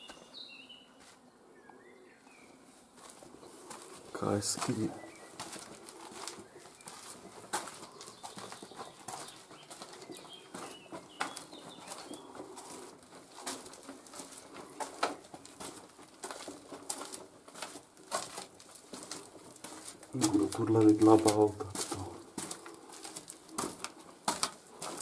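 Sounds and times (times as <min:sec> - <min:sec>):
footsteps on sandy stone floor: 0:00.0 - 0:01.3, 0:02.2 - 0:25.0.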